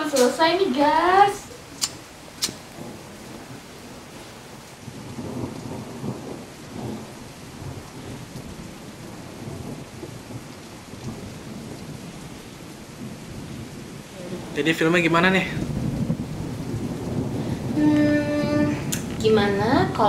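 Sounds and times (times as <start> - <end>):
low rumbling thunder: 0.0 - 20.0
steady rain falling: 0.0 - 20.0.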